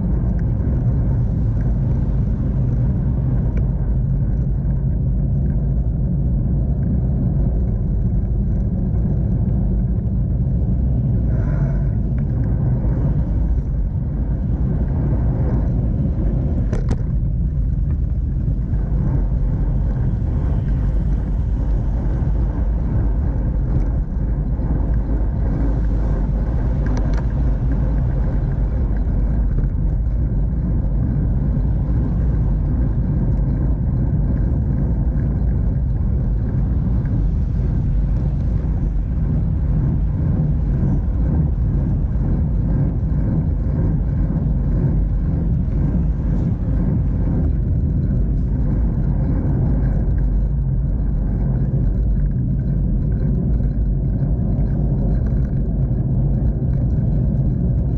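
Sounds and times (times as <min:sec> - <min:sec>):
street traffic: 0:00.0 - 0:57.9
wind and road noise: 0:00.0 - 0:57.9.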